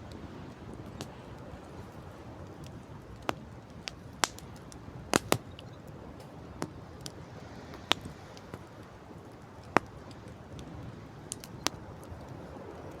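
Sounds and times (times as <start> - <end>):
campfire crackling: 0.0 - 13.0
low rumble of wind and sea: 0.0 - 13.0.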